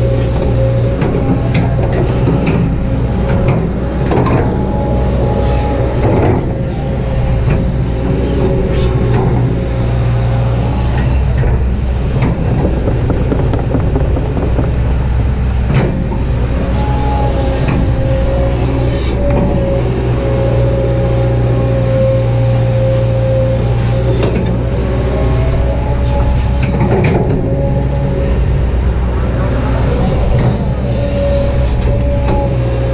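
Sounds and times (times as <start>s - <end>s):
excavator diesel engine running: 0.0s - 32.9s
hydraulic pump whine: 0.0s - 32.9s.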